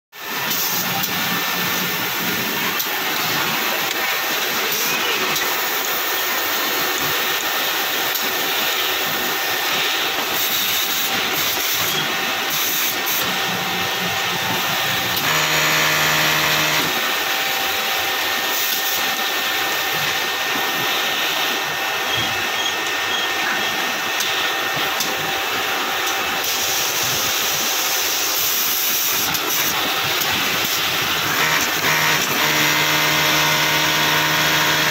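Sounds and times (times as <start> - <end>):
sewing machines whirring: 0.2 - 34.9.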